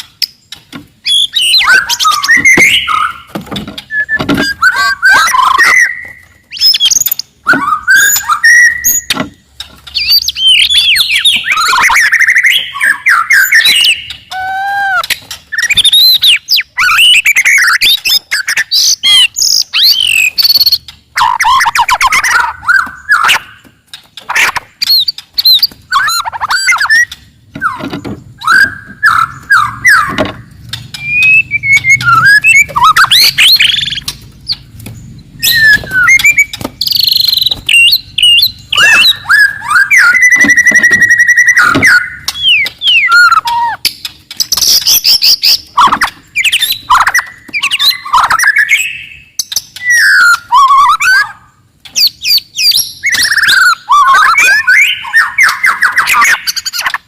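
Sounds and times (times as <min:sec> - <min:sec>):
bird singing whistled phrases: 0:01.0 - 0:09.2, 0:10.0 - 0:23.6, 0:24.3 - 0:30.3, 0:31.0 - 0:34.6, 0:35.4 - 0:43.9, 0:44.6 - 0:57.0.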